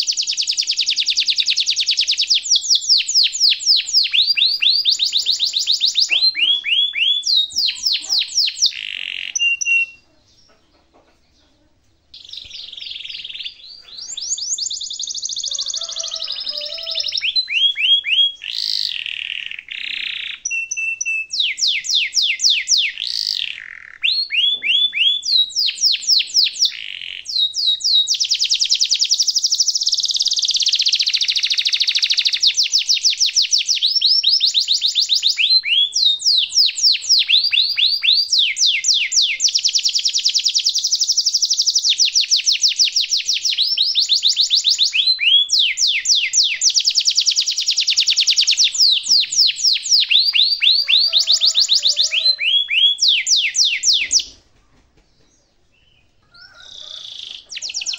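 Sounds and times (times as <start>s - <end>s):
canary singing trills: 0.0s - 54.4s, 55.2s - 57.9s.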